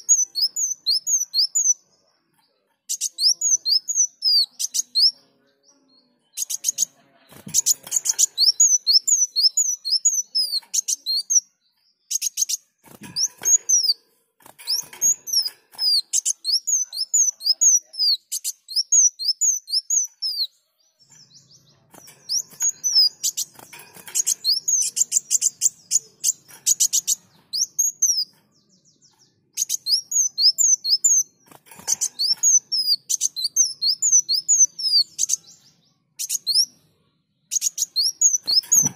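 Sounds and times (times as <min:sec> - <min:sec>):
sunbird twittering song: 0:00.0 - 0:38.9.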